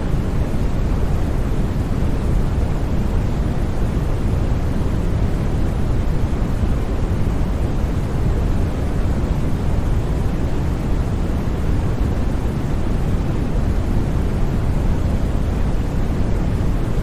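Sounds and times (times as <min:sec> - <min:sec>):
low white noise rush: 0:00.0 - 0:17.0.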